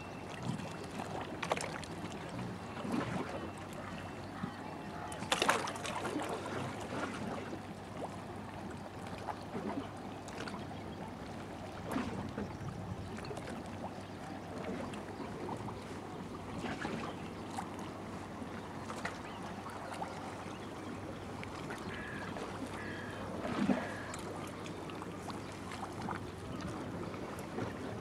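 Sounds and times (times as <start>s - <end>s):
water lapping against boat: 0.0s - 28.0s.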